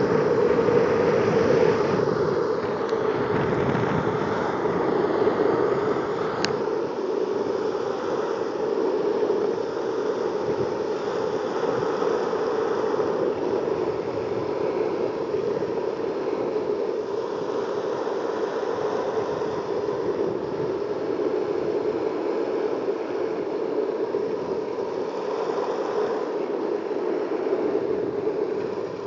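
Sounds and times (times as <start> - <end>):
longboard wheels rolling on asphalt: 0.0 - 9.6, 10.3 - 29.0.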